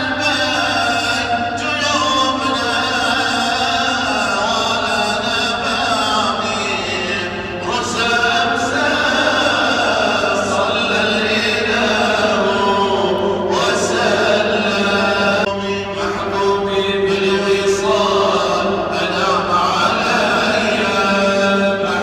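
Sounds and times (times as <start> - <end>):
melodic vocal chanting: 0.0 - 22.0.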